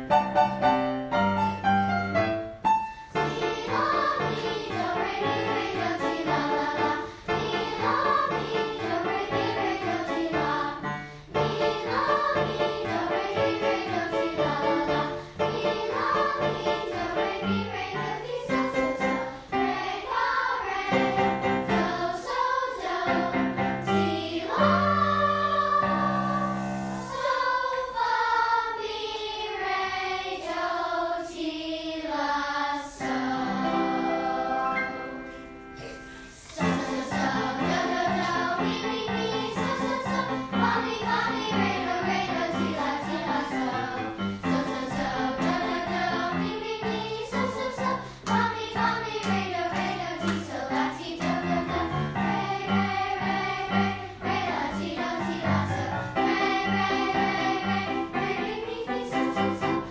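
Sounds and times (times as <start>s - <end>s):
choir singing: 3.1s - 59.9s.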